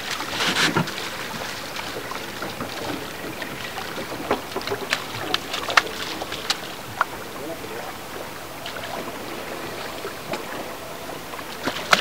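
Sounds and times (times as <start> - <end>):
water slaps and drips: 0.0 - 12.0
water washing: 0.0 - 12.0.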